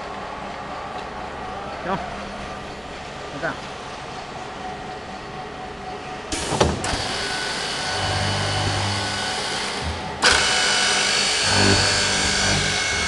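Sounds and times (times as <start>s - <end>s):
boring machine whine and hiss: 0.0s - 13.0s.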